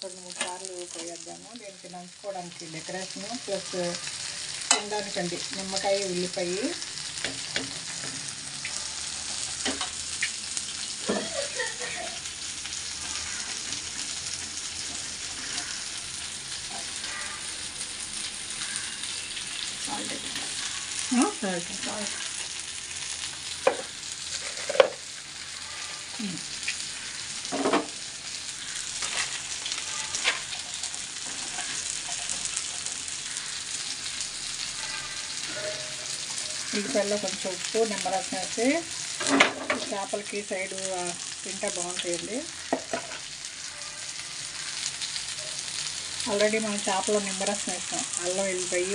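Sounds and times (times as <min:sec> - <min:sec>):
fish sizzling in a pan: 0:00.0 - 0:48.9.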